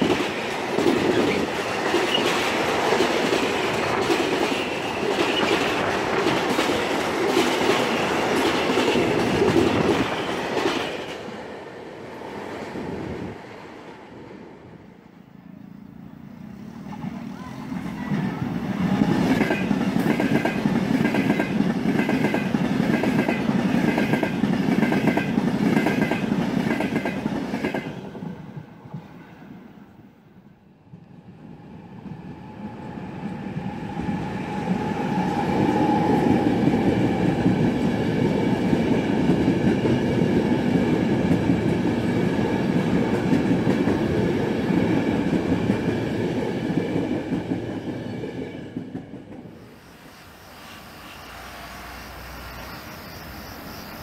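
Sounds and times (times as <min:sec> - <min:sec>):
train passing with loud rumble: 0:00.0 - 0:54.0.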